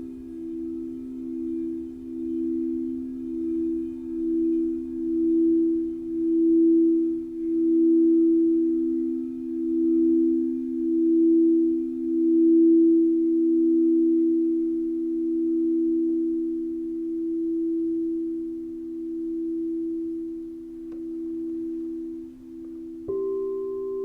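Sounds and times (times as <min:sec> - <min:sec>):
singing bowls ringing: 0:00.0 - 0:24.0.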